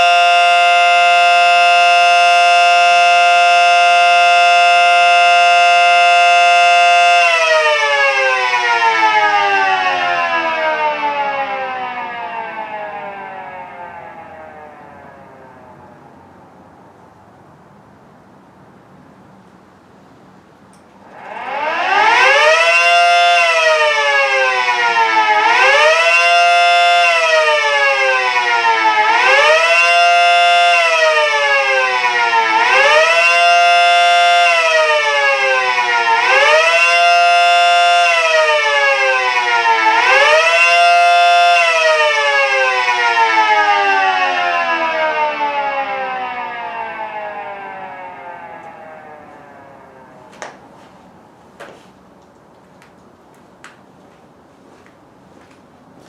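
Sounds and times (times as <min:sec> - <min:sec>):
miniature warning siren wailing: 0:00.0 - 0:16.0, 0:21.0 - 0:50.9.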